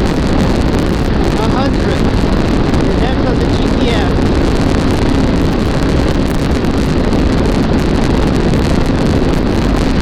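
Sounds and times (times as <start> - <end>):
motorcycle engine at high speed: 0.0 - 10.0
wind buffeting microphone: 0.0 - 10.0.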